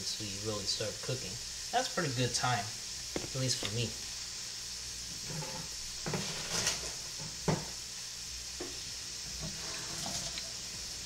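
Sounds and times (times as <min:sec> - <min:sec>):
shrimp sizzling in frying pan: 0:00.0 - 0:11.0.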